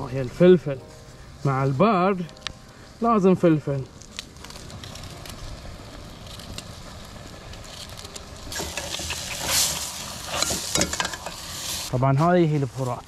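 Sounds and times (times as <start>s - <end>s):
food sizzling: 0.0s - 12.2s
wood fire crackling: 0.0s - 13.0s.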